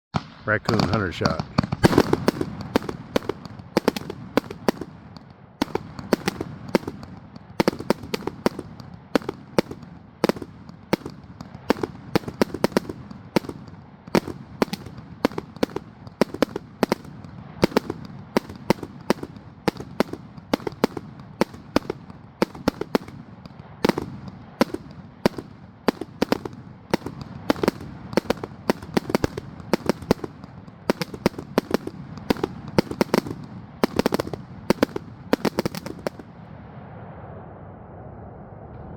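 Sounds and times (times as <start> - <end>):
fireworks cake firing: 0.2 - 36.5.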